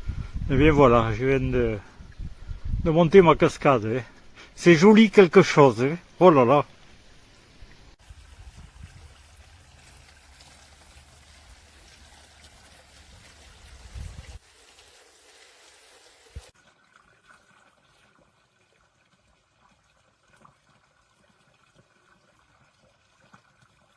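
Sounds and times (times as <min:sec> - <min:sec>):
water trickling and splashing: 0:00.0 - 0:23.9.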